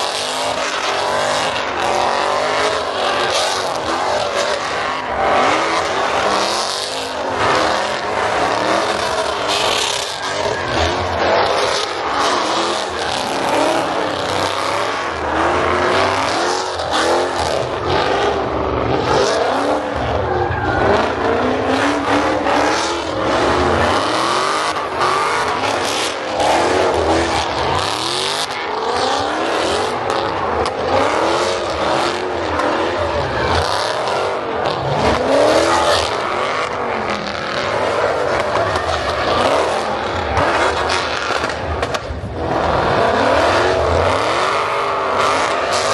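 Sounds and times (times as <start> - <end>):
car engines revving: 0.0 - 45.9
tires squealing: 0.0 - 45.9.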